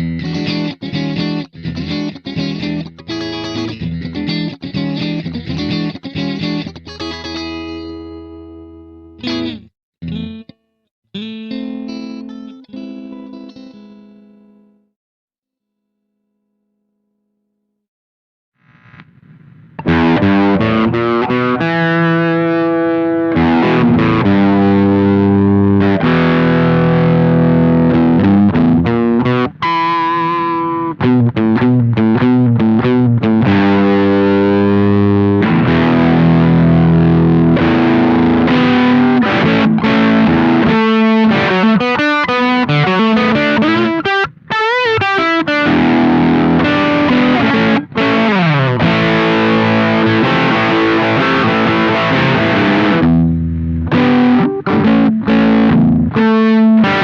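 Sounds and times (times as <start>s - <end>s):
distorted electric guitar chords: 0.0s - 14.8s, 18.6s - 57.0s.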